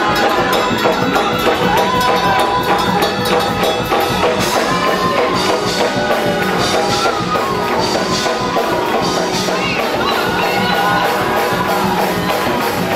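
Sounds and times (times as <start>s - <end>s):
drums: 0.0s - 12.9s
live gospel music: 0.0s - 12.9s.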